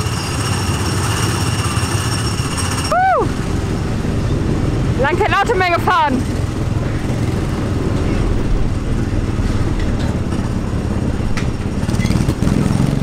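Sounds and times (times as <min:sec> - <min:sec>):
small gasoline engine droning: 0:00.0 - 0:13.0.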